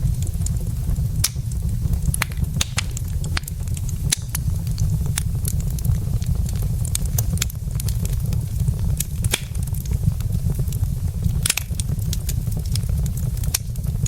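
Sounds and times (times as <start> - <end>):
fire low rumble: 0.0 - 14.0
logs crackling and popping: 0.0 - 14.0.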